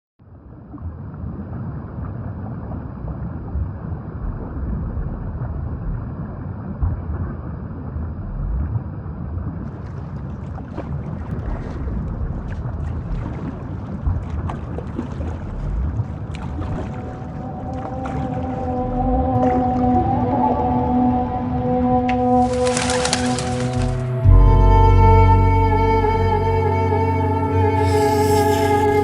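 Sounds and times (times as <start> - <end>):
continuous low rumble: 0.2 - 29.0
wind buffeting microphone: 0.8 - 24.4.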